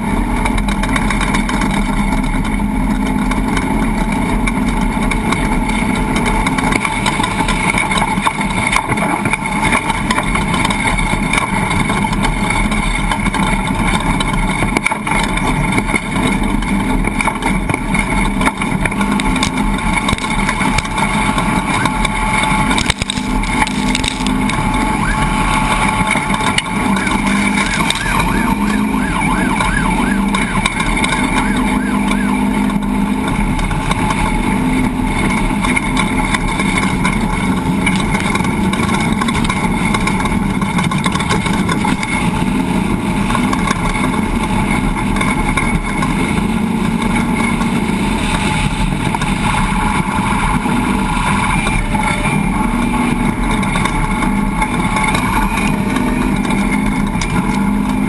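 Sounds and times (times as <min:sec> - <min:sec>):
road and wind rumble: 0:00.0 - 0:58.0
truck engine running at speed: 0:00.0 - 0:58.0.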